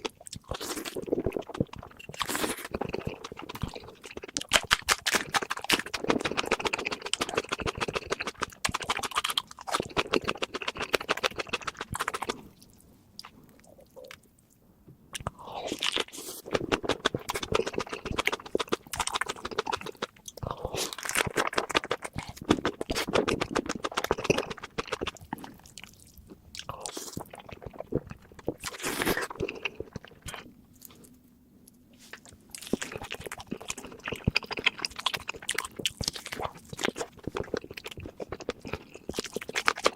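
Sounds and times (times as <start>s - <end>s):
wet chewing: 0.1s - 14.2s, 15.1s - 31.2s, 32.0s - 39.9s.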